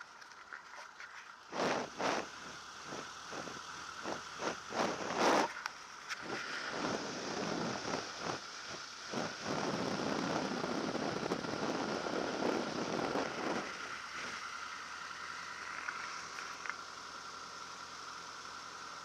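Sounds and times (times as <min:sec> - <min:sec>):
airplane engine running: 0:01.4 - 0:19.0.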